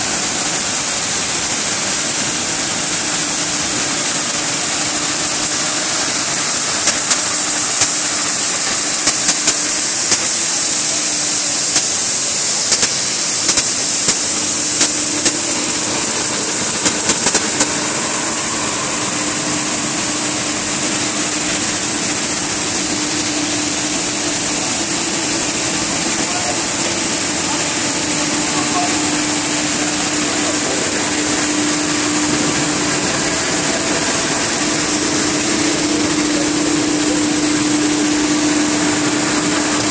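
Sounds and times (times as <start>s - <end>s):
extruder machine noise: 0.0s - 39.9s.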